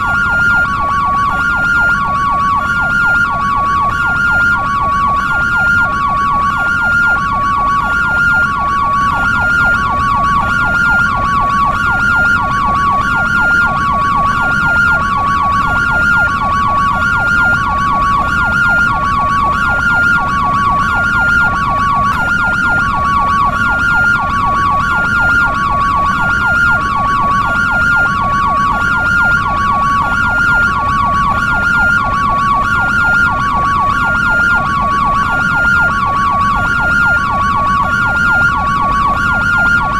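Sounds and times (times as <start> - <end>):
fast siren warble: 0.0 - 39.9
two-tone ambulance siren: 0.0 - 39.9.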